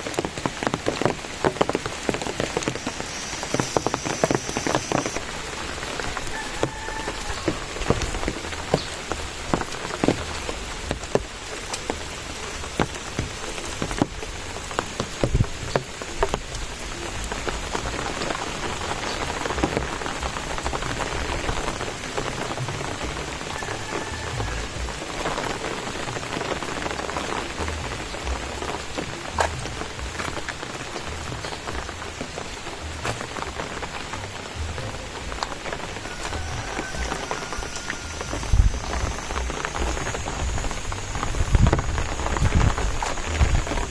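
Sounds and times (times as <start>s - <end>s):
raindrops hitting close by: 0.0s - 43.9s
steady rain falling: 0.0s - 43.9s.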